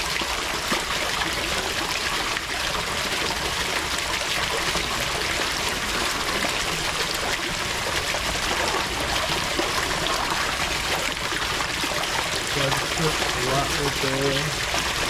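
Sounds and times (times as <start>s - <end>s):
water running and trickling: 0.0s - 15.0s.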